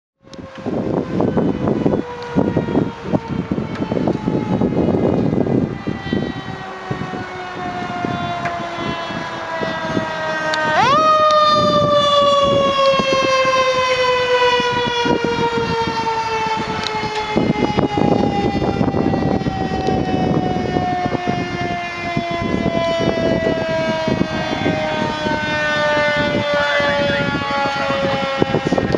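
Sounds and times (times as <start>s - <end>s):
fire truck siren: 0.2s - 28.9s
truck engines rumbling: 0.4s - 28.9s.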